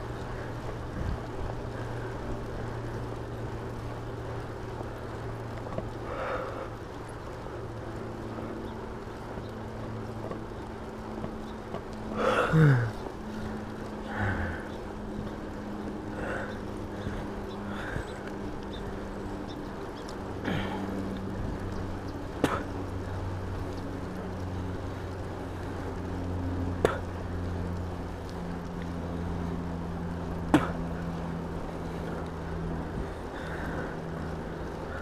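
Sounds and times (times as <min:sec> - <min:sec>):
electric bike motor and tyres hum: 0:00.0 - 0:35.0
wind and road noise: 0:00.0 - 0:35.0.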